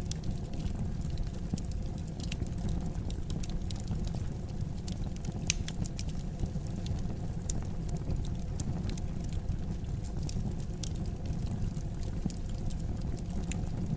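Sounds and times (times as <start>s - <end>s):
fireplace fire crackling: 0.0s - 13.9s
low rumble of flames: 0.0s - 13.9s.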